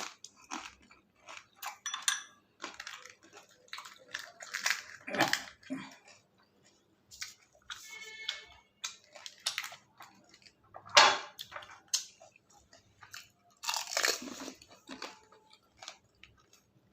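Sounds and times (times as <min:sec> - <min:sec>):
crisp shells crunching when chewed: 0:00.0 - 0:01.8, 0:02.5 - 0:07.8, 0:08.5 - 0:16.9.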